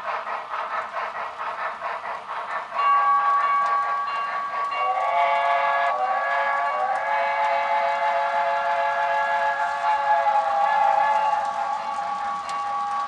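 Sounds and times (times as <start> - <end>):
model locomotive running beat: 0.0 - 13.0.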